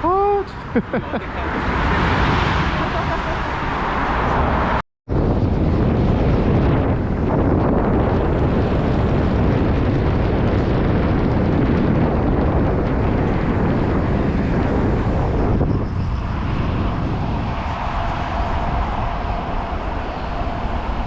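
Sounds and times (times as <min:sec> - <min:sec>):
wind roaring over microphone: 0:00.0 - 0:21.0.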